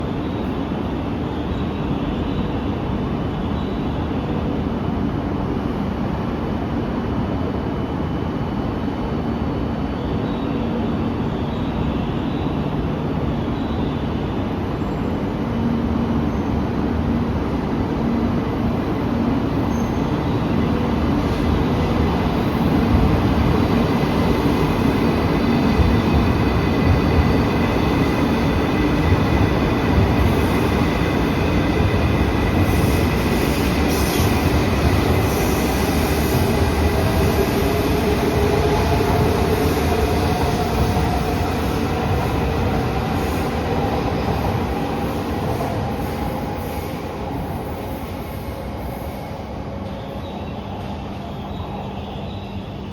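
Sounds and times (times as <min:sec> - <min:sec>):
train rumbling: 0:04.2 - 0:52.9.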